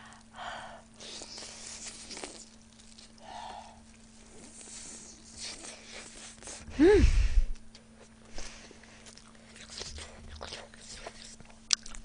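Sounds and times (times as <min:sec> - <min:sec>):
chewing and wet mouth sounds: 0:00.0 - 0:06.7, 0:07.5 - 0:12.0
faint electrical hum: 0:00.0 - 0:12.0.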